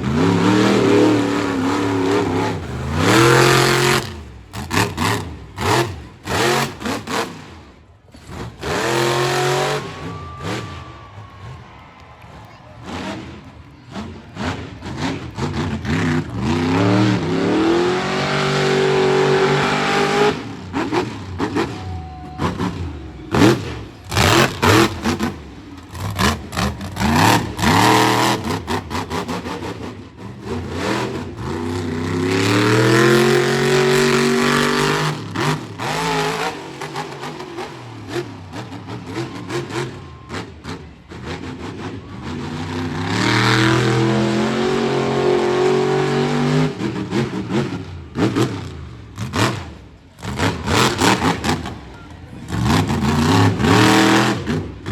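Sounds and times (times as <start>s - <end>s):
engine bangs: 0.0s - 54.9s
truck engine revving: 0.0s - 54.9s.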